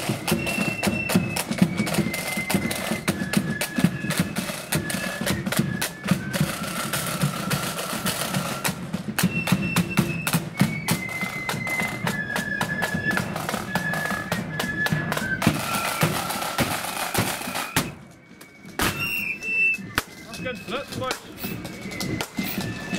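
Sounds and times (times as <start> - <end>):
flutes playing melody: 0.0 - 22.9
side drum rolls: 0.0 - 22.9.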